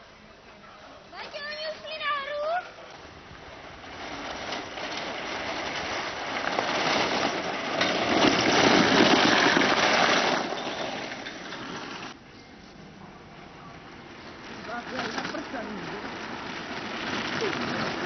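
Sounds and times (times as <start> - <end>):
kart wheels rumbling rattle: 1.3 - 12.2, 13.2 - 18.0.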